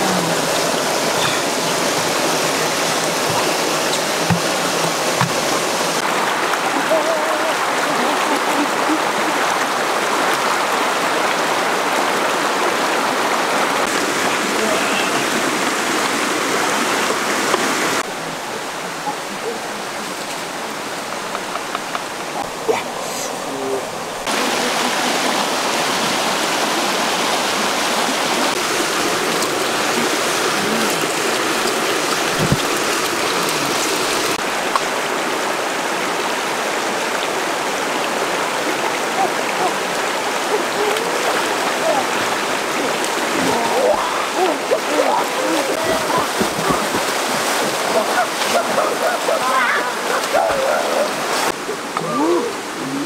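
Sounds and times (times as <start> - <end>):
stream rushing over rocks: 0.0 - 53.0.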